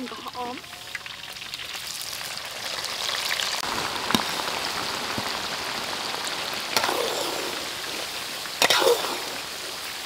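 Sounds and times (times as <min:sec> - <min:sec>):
oil sizzling and crackling: 0:00.0 - 0:10.0.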